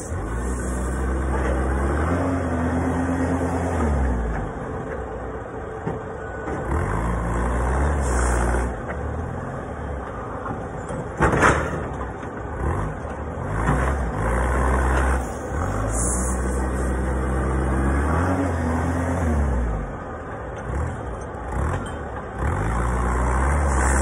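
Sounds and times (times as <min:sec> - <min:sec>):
forklift engine revving: 0:00.0 - 0:10.0, 0:12.0 - 0:24.0.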